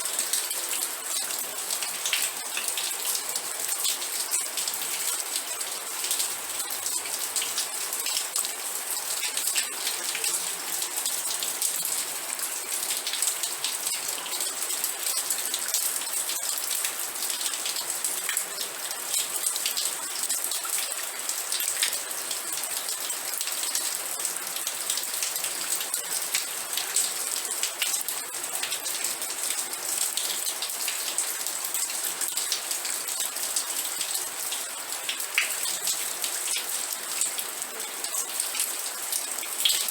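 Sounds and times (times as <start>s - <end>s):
rain drops striking a surface: 0.0s - 39.9s.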